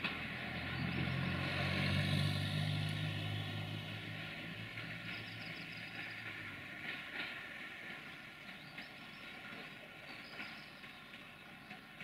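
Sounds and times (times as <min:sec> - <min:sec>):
train rail noise: 0:00.0 - 0:12.0.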